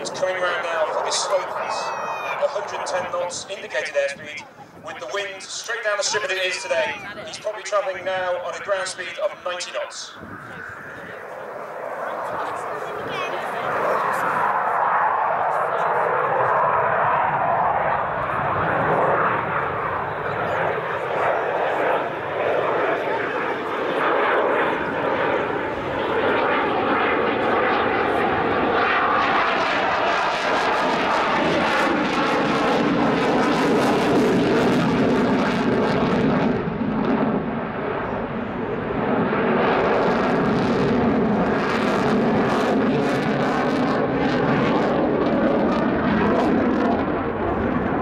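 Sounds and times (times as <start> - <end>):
jet engine roar passing: 0.0 - 48.0.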